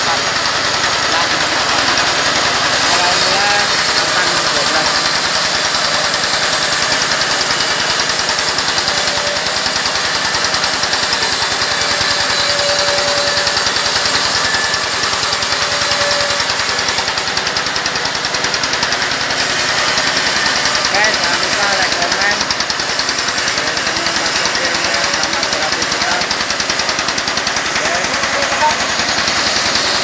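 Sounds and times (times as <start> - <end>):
engine knocking steadily: 0.0 - 30.0.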